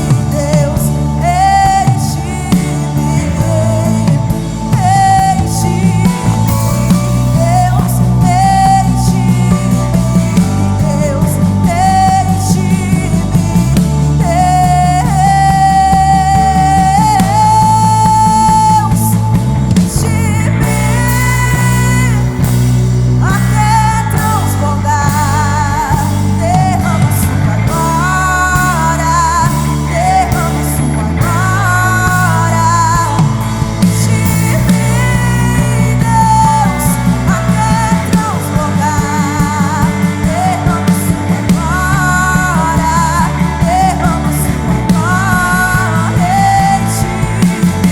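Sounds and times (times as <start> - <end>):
live band playing: 0.0 - 47.9
woman singing: 0.0 - 47.9.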